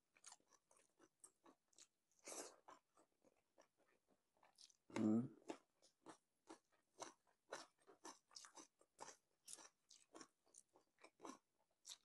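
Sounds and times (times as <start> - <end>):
wet chewing crunches: 0.2 - 4.9, 5.5 - 12.0.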